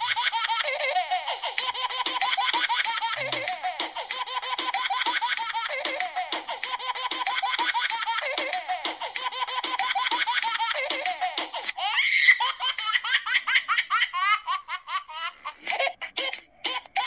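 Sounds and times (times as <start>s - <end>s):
baby laughing: 0.0s - 17.0s.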